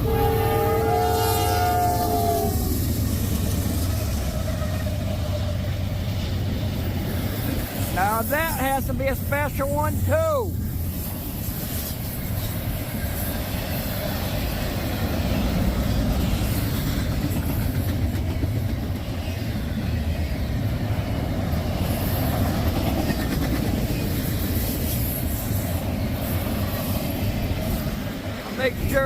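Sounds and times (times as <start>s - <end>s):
freight train rumbling past: 0.0s - 29.0s.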